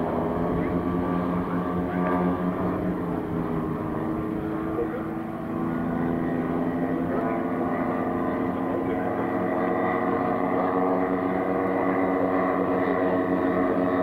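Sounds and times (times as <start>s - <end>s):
model airplane engines droning: 0.0s - 14.0s.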